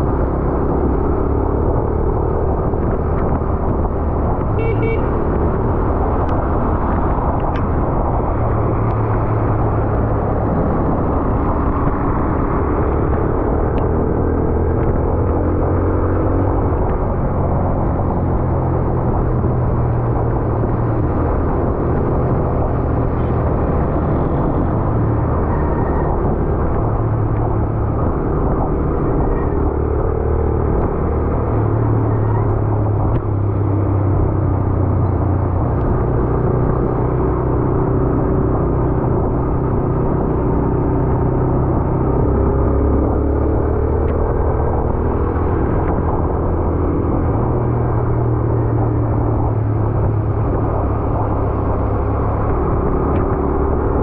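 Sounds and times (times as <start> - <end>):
road noise: 0.0 - 54.0
wind noise: 0.0 - 54.0.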